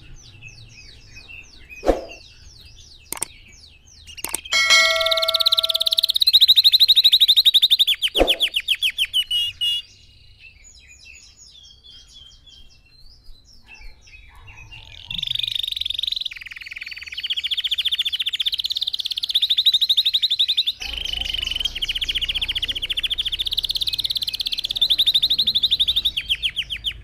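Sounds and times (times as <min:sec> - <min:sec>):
soft bird chirps: 0:00.0 - 0:27.0
canary singing in ringing trills: 0:00.2 - 0:09.9, 0:13.8 - 0:27.0.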